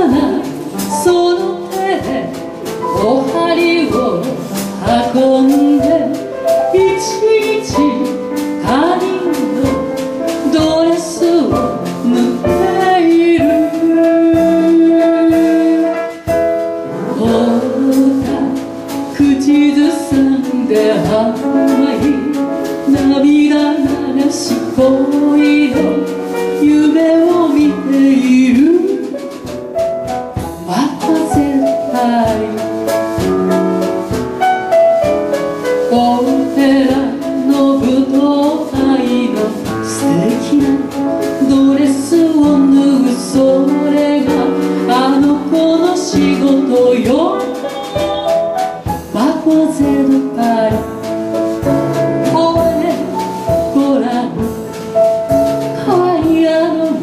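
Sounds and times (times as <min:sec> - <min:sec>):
woman singing into a microphone: 0:00.0 - 0:09.8, 0:10.4 - 0:16.2, 0:16.9 - 0:29.1, 0:30.6 - 0:32.6, 0:35.9 - 0:51.1, 0:52.2 - 0:54.6, 0:55.8 - 0:57.0
piano accompaniment: 0:00.0 - 0:57.0.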